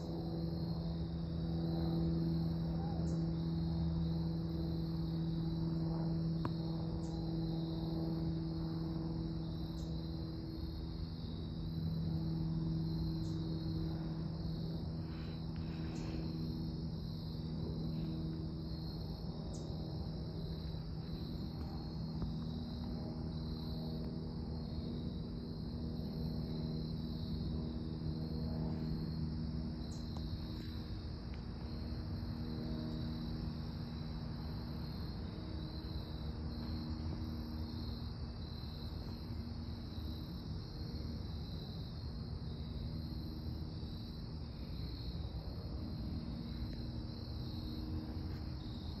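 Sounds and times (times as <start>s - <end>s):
propeller aircraft drone: 0.0s - 49.0s.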